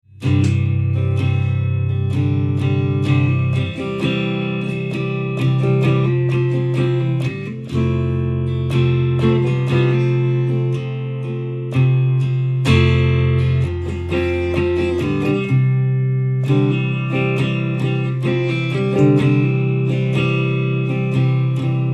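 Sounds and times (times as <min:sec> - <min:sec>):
guitar chords strummed and picked: 0:00.0 - 0:21.9.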